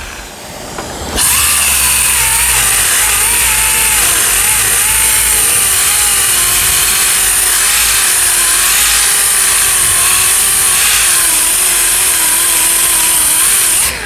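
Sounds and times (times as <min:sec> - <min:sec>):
orbital sander hissing and whining: 0:00.0 - 0:14.0.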